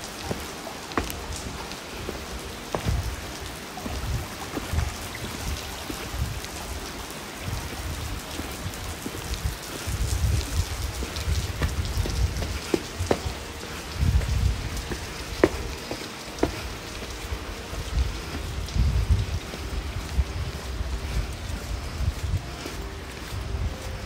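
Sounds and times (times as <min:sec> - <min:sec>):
sharp drips: 0:00.0 - 0:24.0.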